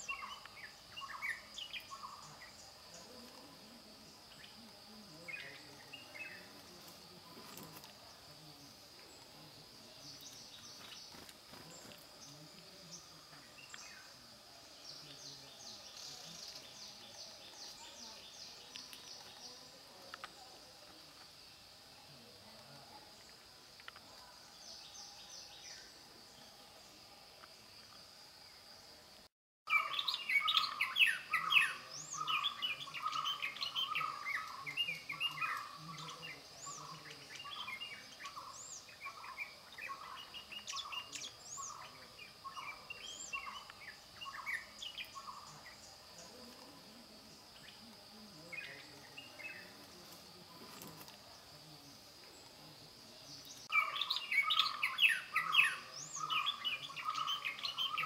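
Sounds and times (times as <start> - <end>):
birds chirping: 0.0 - 29.0, 29.7 - 58.0.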